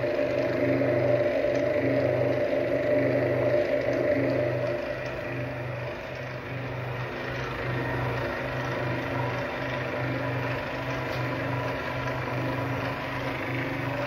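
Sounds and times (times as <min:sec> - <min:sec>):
pulsing motor hum: 0:00.0 - 0:14.0.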